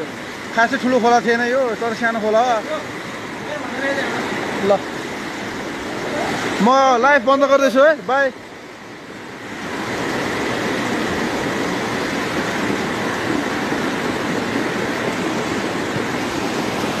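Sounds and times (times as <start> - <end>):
floodwater rushing down a street: 0.0 - 17.0.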